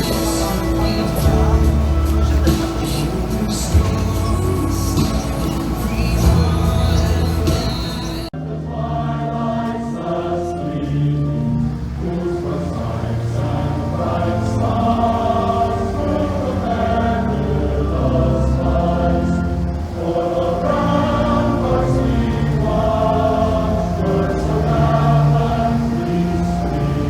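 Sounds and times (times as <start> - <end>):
choir singing held chords: 0.0 - 27.0
low bass: 0.0 - 27.0.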